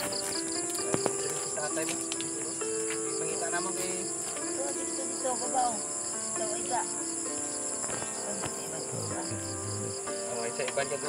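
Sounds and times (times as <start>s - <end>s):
high-pitched insect chorus: 0.0s - 11.0s
pulsing insect chirp: 0.0s - 11.0s.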